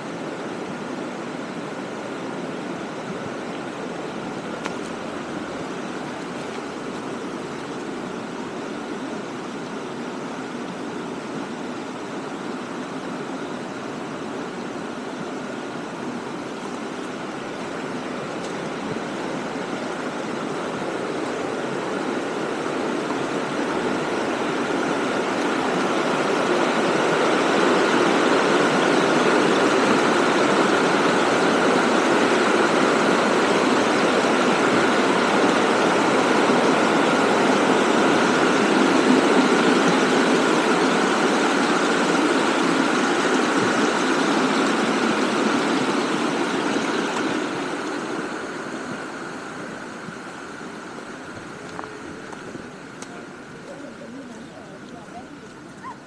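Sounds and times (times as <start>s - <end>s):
water cascading over weir: 0.0s - 56.0s.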